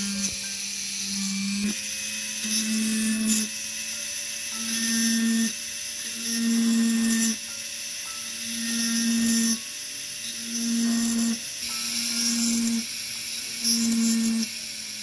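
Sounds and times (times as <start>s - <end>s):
rotary tool motor whine: 0.0s - 15.0s.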